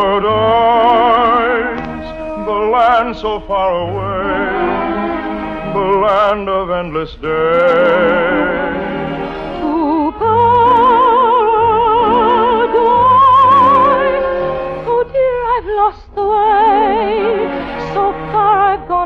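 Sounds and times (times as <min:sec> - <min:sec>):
operatic singing: 0:00.0 - 0:19.0
orchestra playing: 0:00.0 - 0:19.0.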